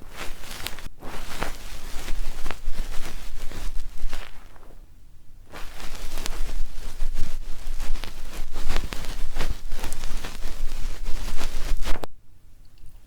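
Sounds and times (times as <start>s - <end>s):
ear pick scratching a microphone: 0.0s - 4.8s, 5.5s - 12.1s.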